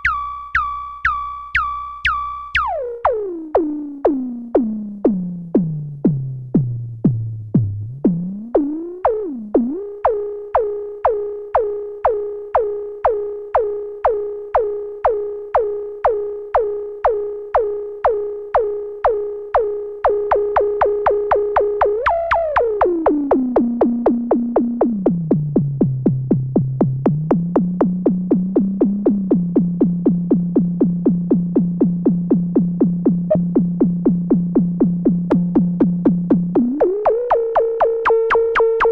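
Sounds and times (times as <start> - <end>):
synthesizer plucked note gliding: 0.0 - 38.9.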